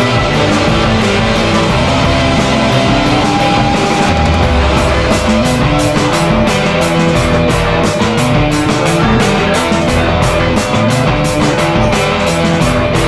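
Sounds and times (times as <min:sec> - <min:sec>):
loud rock music with guitar: 0:00.0 - 0:13.0
rapid percussive hits: 0:00.0 - 0:13.0.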